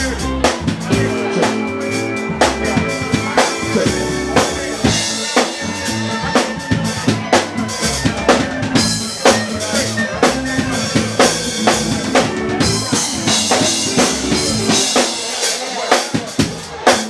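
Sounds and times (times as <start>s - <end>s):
live soul band playing: 0.0s - 17.0s
snare and bass drum beat: 0.0s - 17.0s.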